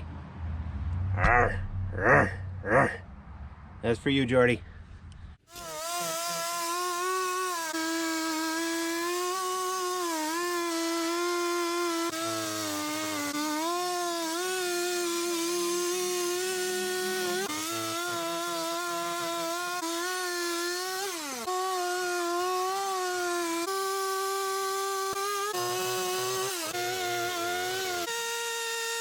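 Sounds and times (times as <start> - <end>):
chainsaw cutting wood: 5.4 - 29.0.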